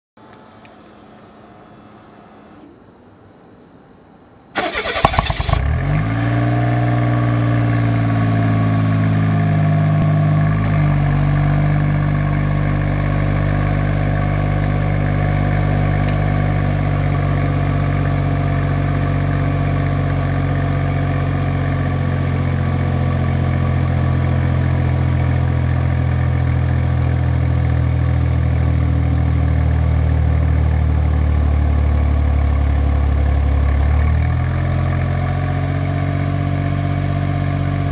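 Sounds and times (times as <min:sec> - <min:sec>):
car engine starting and idling: 0:04.6 - 0:37.9.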